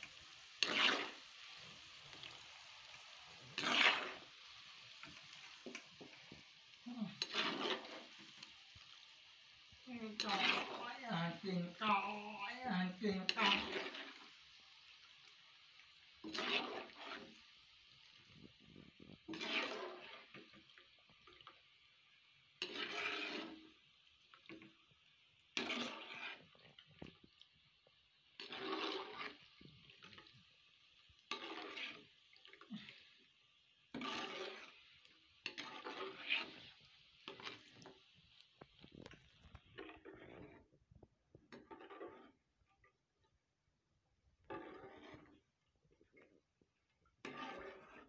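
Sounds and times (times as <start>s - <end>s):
vegetables sizzling in hot oil: 0.0s - 40.6s.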